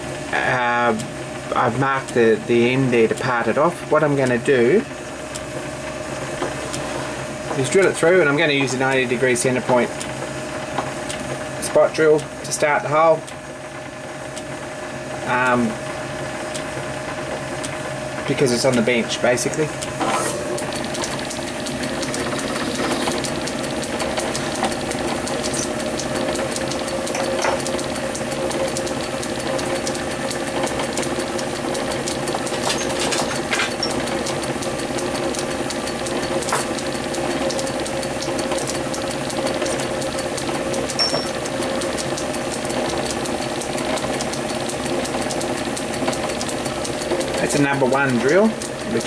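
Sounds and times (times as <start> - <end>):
metal lathe whining: 1.0 - 49.0.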